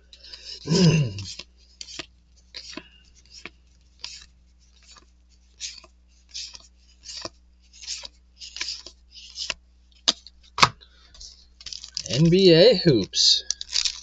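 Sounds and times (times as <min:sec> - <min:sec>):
cards scraping and snapping: 0:00.0 - 0:12.3, 0:12.9 - 0:14.0.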